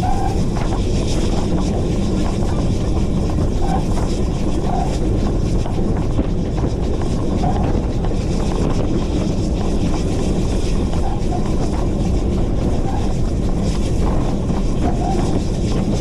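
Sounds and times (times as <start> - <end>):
steam locomotive running rumble: 0.0 - 16.0.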